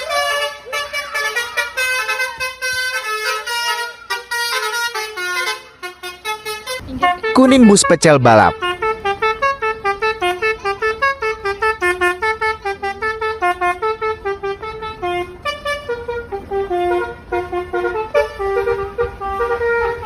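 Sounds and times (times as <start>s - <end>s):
multi-tone bus horn tune: 0.0s - 20.0s.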